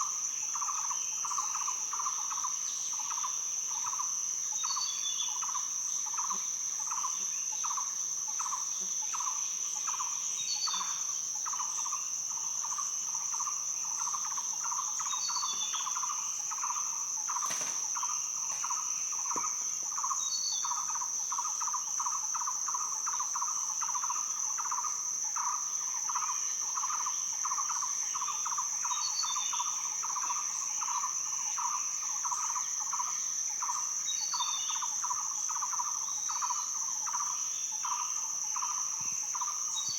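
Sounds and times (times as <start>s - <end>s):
insect chirp pulsing: 0.0s - 39.9s
insect high-pitched trill: 0.0s - 39.9s.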